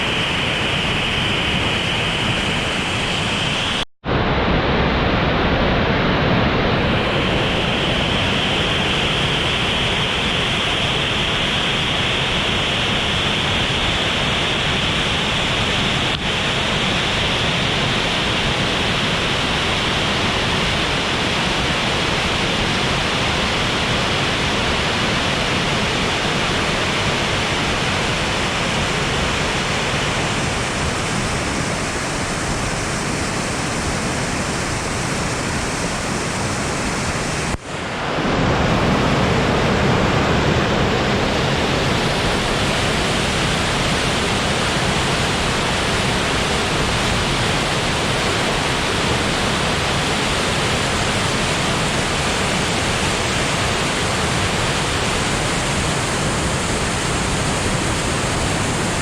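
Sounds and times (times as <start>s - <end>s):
river water rushing: 6.9s - 59.0s.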